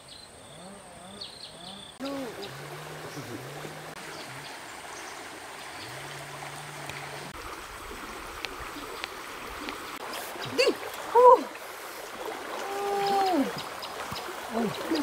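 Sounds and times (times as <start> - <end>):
river water flowing: 1.3 - 15.0.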